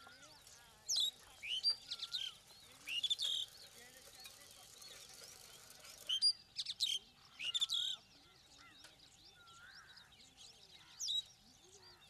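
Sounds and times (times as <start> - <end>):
starlings chattering calls: 0.0 - 12.0.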